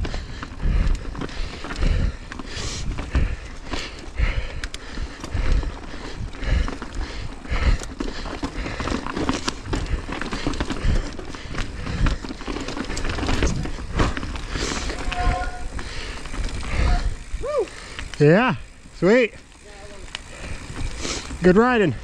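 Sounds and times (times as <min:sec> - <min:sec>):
bike rattling: 0:00.0 - 0:22.0.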